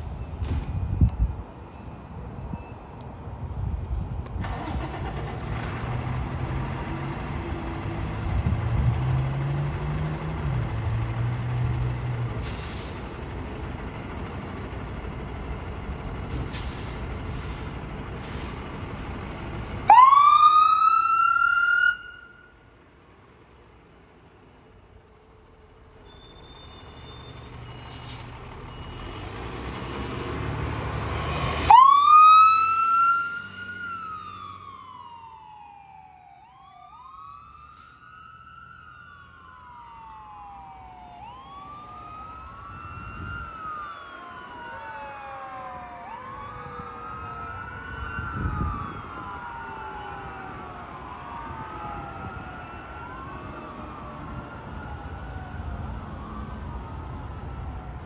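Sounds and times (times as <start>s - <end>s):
diesel engine building up: 0.0s - 58.0s
fire engine siren wailing: 4.4s - 22.8s, 26.1s - 58.0s.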